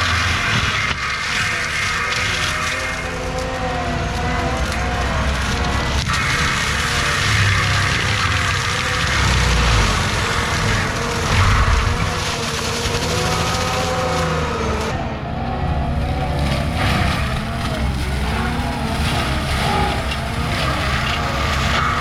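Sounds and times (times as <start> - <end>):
skid steer mulcher grinding brush: 0.0 - 22.0.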